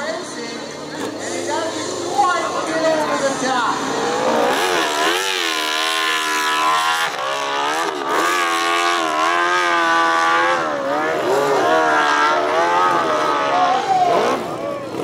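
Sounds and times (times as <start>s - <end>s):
motorcycle engine revving hard: 0.8s - 15.0s.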